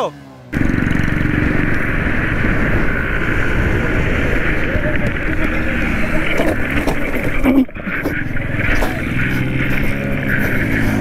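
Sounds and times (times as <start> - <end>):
motorcycle engine running: 0.0 - 11.0
wind on microphone: 0.6 - 11.0.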